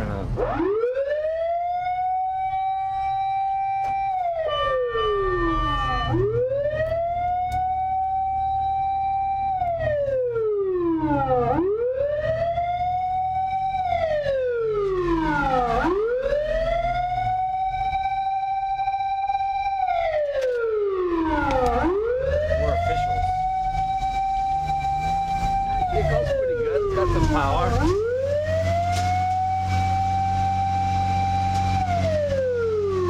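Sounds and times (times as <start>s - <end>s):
siren wailing: 0.0s - 33.0s.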